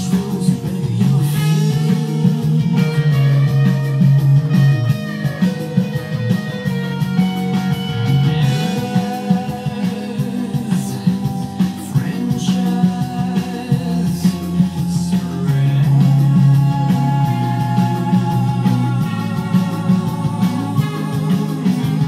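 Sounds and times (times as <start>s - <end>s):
electric guitar fast picking: 0.0s - 22.0s
rock band playing: 0.0s - 22.0s.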